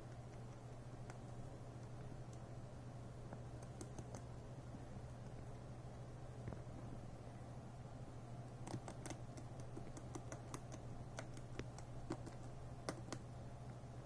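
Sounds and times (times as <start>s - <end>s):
rabbit gnawing wood: 0.0s - 7.1s, 8.4s - 13.8s
steady low hum: 0.0s - 14.0s.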